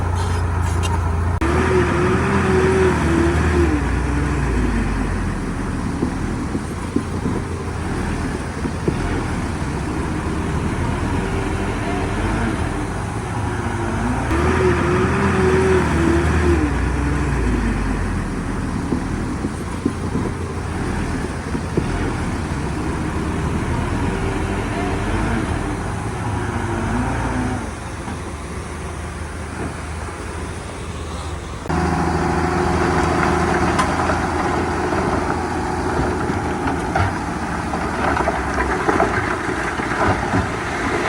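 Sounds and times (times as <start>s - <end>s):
heavy diesel engine working: 0.0s - 41.0s.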